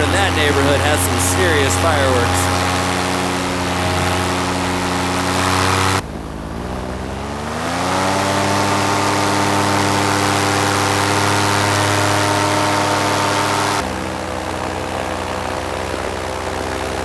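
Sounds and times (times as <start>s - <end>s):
paramotor engine and propeller: 0.0s - 17.0s.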